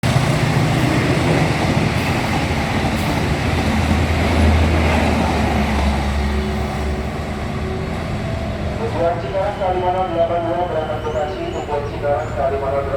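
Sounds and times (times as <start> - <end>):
train rumbling past: 0.0 - 12.9.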